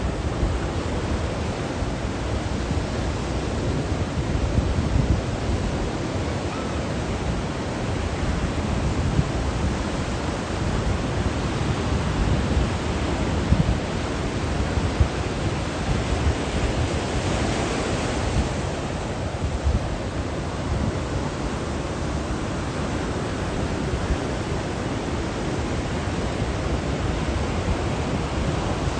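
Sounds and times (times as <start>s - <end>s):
ocean surf breaking: 0.0s - 28.9s.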